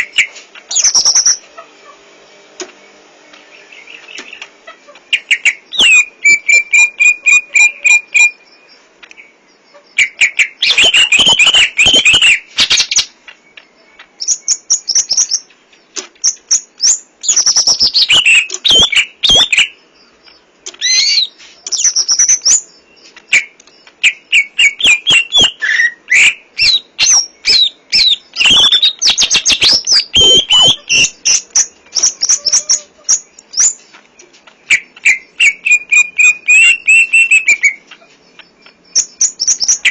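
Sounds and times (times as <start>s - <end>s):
bird singing whistles and trills: 0.0s - 1.4s, 5.1s - 39.9s.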